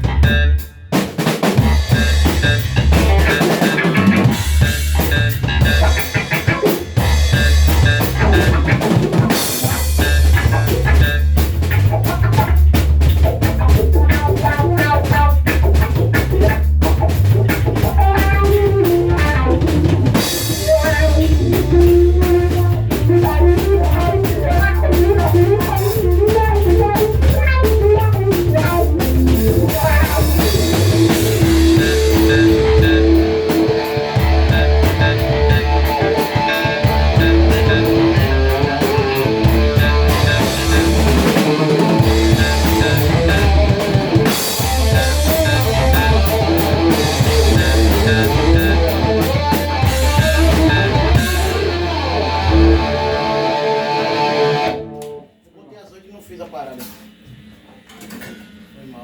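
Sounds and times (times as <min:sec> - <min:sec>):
drum kit playing: 0:00.0 - 0:55.3
bass guitar: 0:00.0 - 0:55.4
electric guitar: 0:00.0 - 0:55.4.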